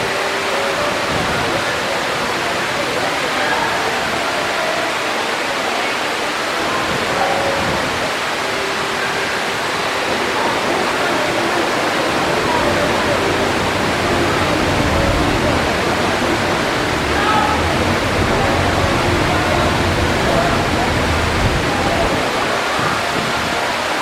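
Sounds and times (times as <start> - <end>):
faint crowd chatter: 0.0 - 24.0
waterfall rushing: 0.0 - 24.0.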